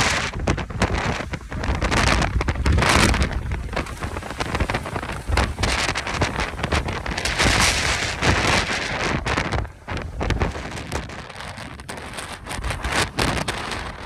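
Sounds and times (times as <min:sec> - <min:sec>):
strong wind gusting: 0:00.0 - 0:14.0
wind rumble on microphone: 0:00.0 - 0:14.0.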